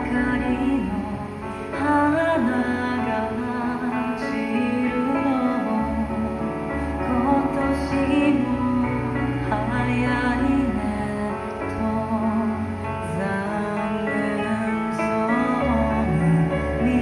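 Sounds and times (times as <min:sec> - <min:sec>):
bass line: 0:00.0 - 0:17.0
person singing: 0:00.0 - 0:17.0.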